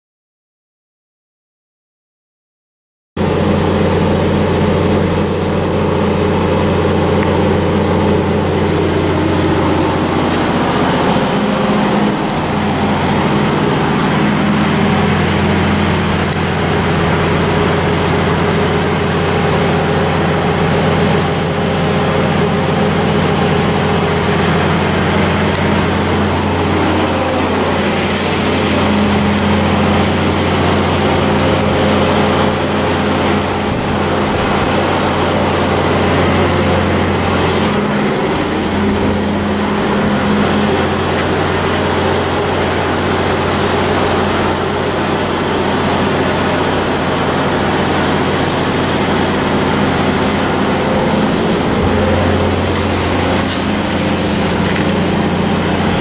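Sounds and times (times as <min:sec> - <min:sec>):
diesel generator engine running: 0:03.2 - 0:56.0.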